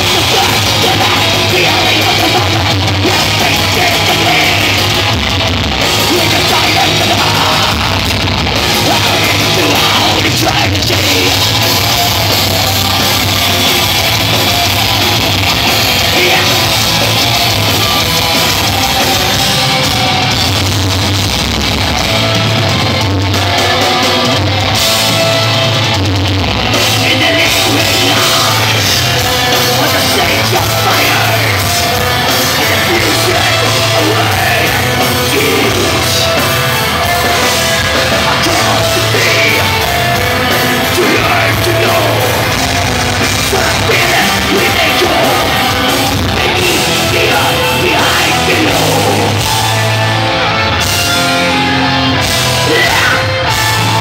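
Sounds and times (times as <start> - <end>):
shouted vocals: 0.0 - 20.2, 26.8 - 54.0
distorted guitars: 0.0 - 54.0
drums: 0.0 - 54.0.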